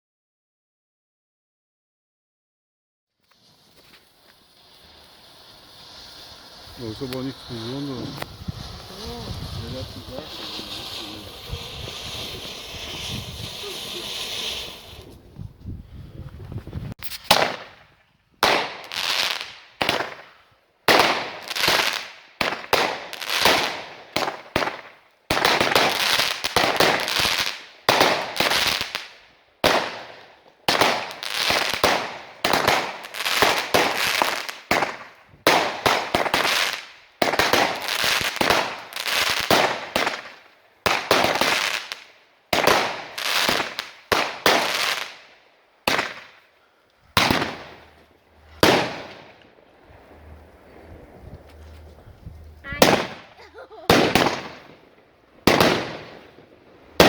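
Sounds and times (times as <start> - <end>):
fireworks banging and crackling: 3.2 - 57.0.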